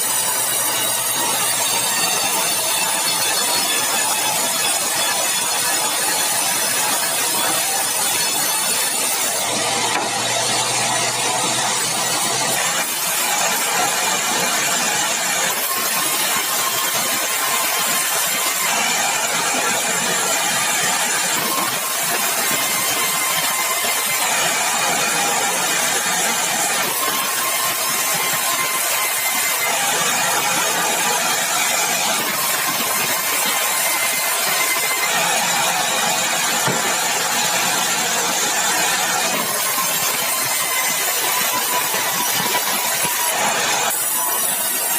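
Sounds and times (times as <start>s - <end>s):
sawmill saw cutting timber: 0.0s - 44.9s.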